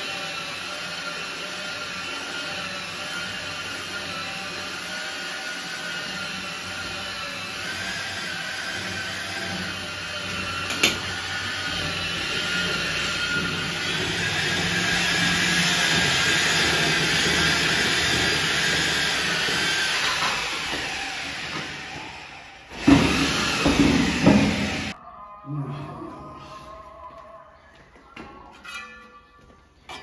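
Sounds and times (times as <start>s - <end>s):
power tool motor whining: 0.0s - 25.0s.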